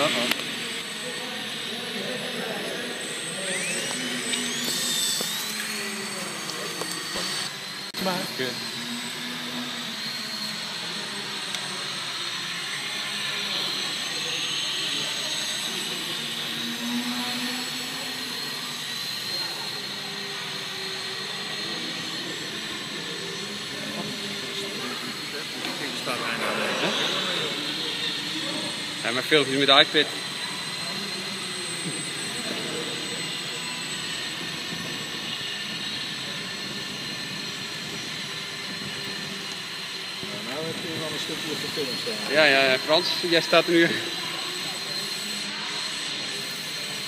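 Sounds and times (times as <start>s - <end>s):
model airplane motor whine: 0.0s - 47.0s.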